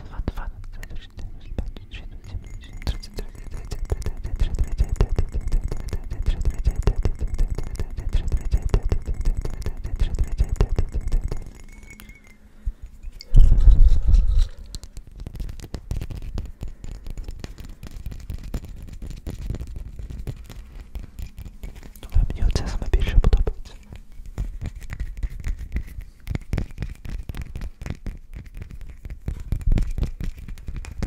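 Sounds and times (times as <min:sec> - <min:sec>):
fingers tapping glass bottle: 0:00.7 - 0:12.4, 0:14.6 - 0:31.0.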